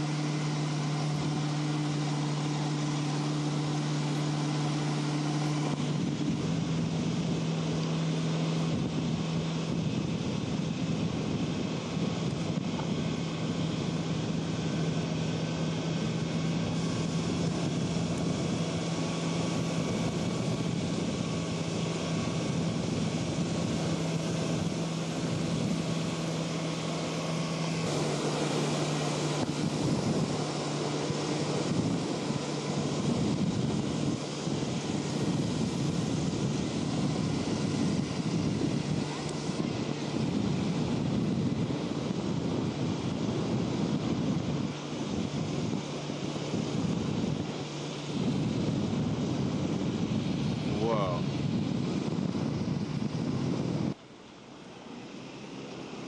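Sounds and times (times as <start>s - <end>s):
motorboat engine droning: 0.0s - 56.0s
wind and water rushing: 0.0s - 56.0s.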